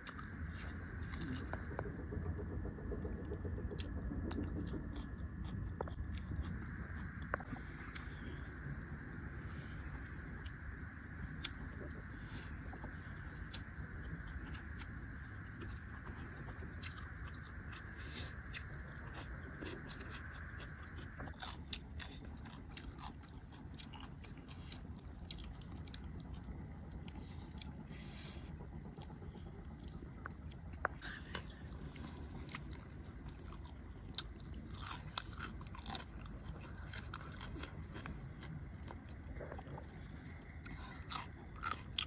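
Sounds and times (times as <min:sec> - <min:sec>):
person chewing and crunching: 0:00.0 - 0:08.9, 0:09.8 - 0:42.0
low steady rumble: 0:00.0 - 0:42.0.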